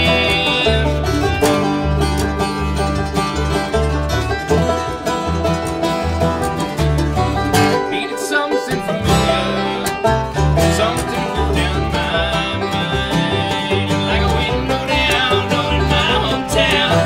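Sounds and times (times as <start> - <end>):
banjo picking: 0.0 - 17.0
mandolin picking: 0.0 - 17.0
plucked upright bass: 0.0 - 17.0
strummed acoustic guitar: 0.0 - 17.0.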